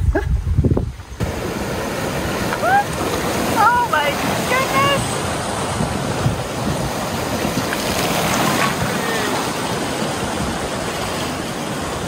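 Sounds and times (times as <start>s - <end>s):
river rapids rushing and splashing: 1.2s - 12.0s.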